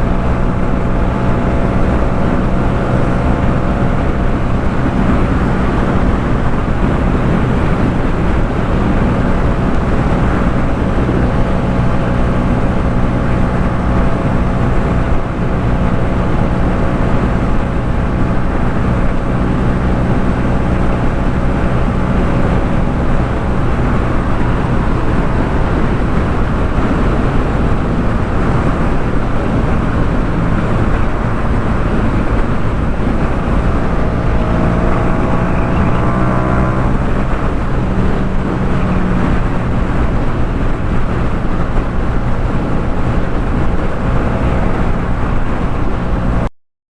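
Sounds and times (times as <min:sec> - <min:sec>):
motorcycle engine cruising: 0:00.0 - 0:46.5
rushing noise: 0:00.0 - 0:46.5.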